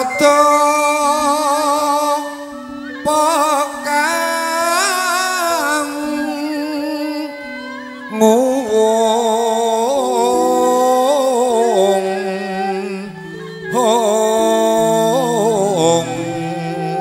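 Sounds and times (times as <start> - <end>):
bamboo flute: 0.0 - 17.0
bowed string instrument: 0.0 - 17.0
person singing melody: 0.0 - 17.0.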